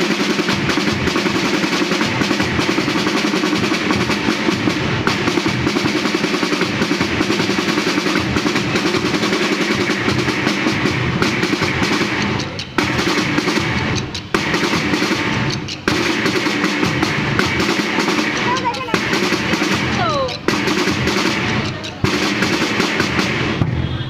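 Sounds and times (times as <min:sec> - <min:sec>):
bass drums: 0:00.0 - 0:24.0
snare drums: 0:00.0 - 0:24.0.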